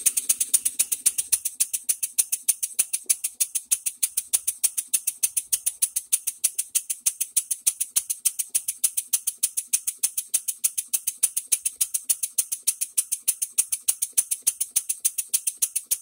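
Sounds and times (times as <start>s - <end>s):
model steam engine chuffing: 0.0s - 16.0s.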